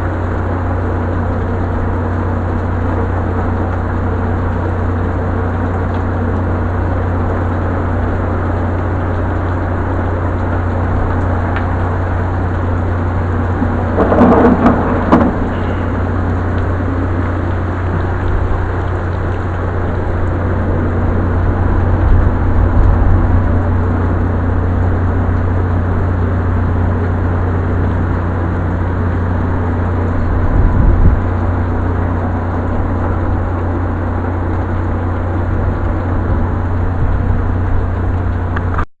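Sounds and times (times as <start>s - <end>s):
heavy rain hissing: 0.0s - 38.9s
low rumble: 0.0s - 38.9s.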